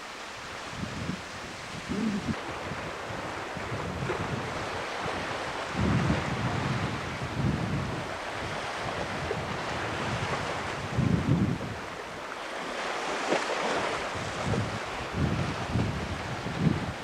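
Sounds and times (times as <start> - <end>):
wind buffeting microphone: 0.4 - 12.2, 13.2 - 17.0.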